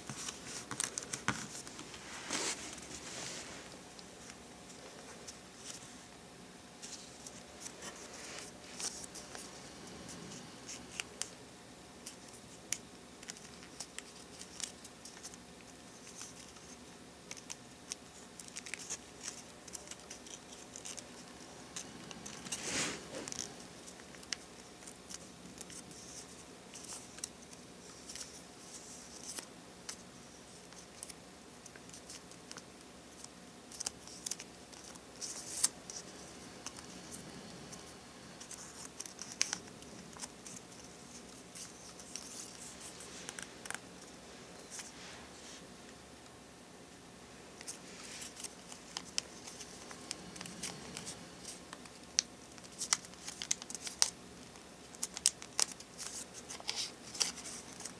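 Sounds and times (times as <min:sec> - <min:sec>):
paper folding and crackling: 0:00.0 - 0:06.1, 0:06.8 - 0:11.3, 0:12.0 - 0:45.6, 0:47.6 - 0:57.9.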